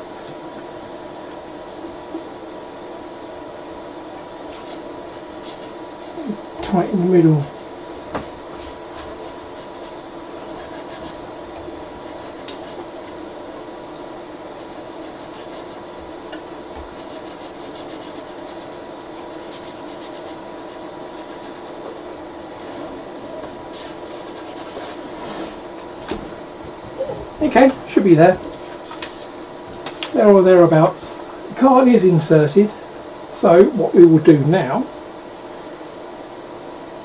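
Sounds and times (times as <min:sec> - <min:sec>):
printer fans humming: 0:00.0 - 0:37.0.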